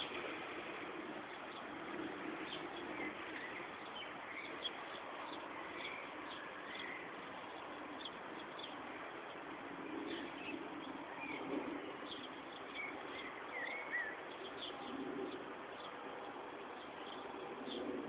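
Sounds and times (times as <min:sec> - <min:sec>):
small birds chirping: 0:00.0 - 0:18.0
steady background hiss: 0:00.0 - 0:18.0.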